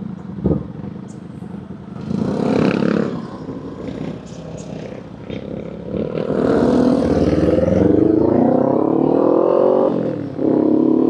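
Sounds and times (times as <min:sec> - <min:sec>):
motorcycle engine accelerating: 0:02.0 - 0:11.0.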